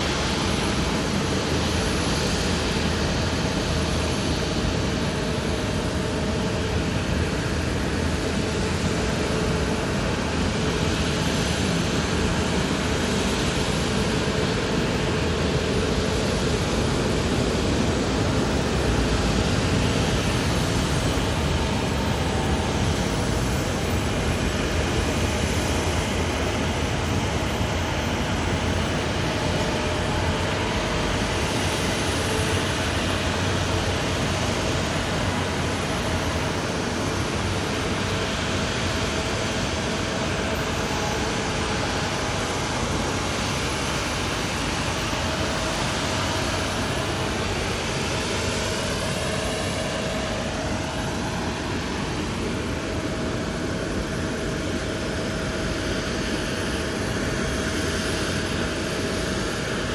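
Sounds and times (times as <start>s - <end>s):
jet airliner rumble and roar: 0.0s - 59.9s.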